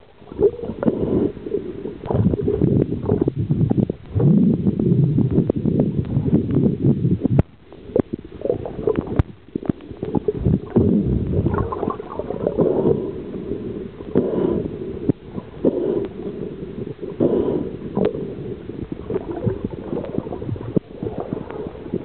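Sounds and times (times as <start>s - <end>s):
muffled water gurgling and sloshing: 0.0s - 22.0s.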